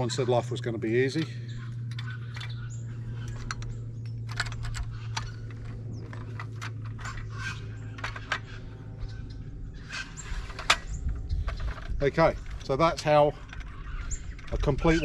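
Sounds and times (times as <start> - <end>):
steady low hum: 0.0 - 15.0
small parts clicking and rattling: 1.1 - 9.5, 10.2 - 15.0.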